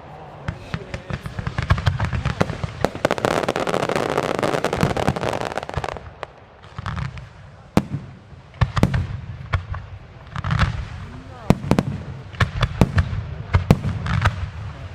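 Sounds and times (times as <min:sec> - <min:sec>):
low rolling echo: 0:00.0 - 0:14.9.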